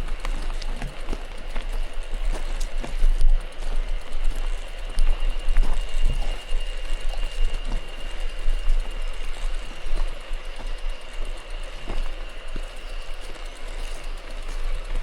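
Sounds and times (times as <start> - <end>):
tyres crunching on gravel: 0.0 - 15.0.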